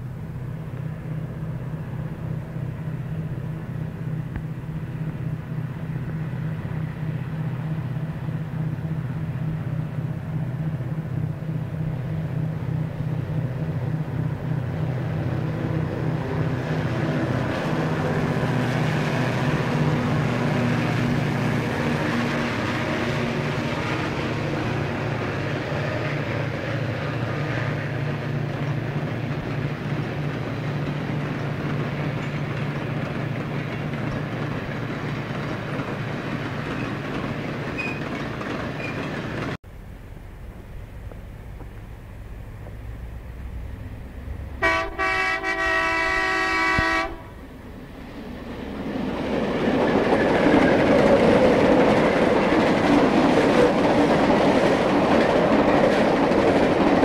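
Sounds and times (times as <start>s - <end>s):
freight cars rolling: 0.0s - 46.0s, 46.8s - 57.0s
diesel locomotive engines: 0.0s - 57.0s.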